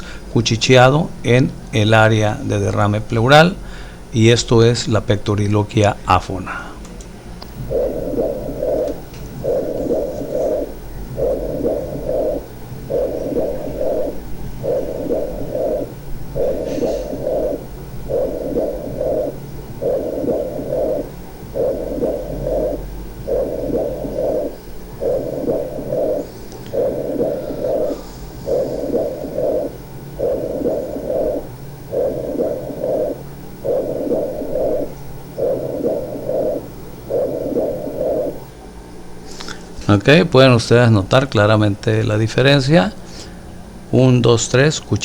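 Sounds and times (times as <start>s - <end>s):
muffled whispered counting: 0.0s - 38.5s, 39.3s - 45.0s
low steady hum: 0.0s - 45.0s.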